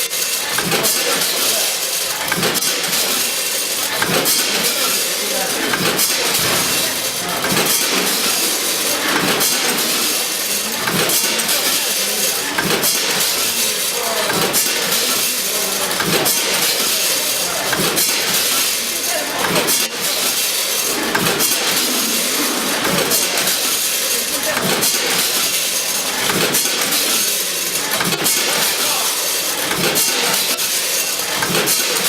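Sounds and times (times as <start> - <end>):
packaging machine hissing and clicking: 0.0 - 32.0.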